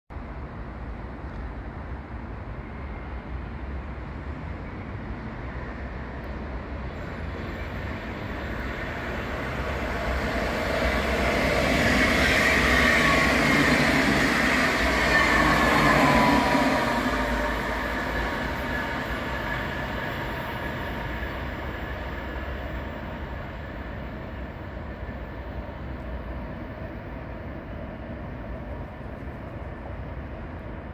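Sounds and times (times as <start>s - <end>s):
train passing with motor whine: 0.2s - 30.9s.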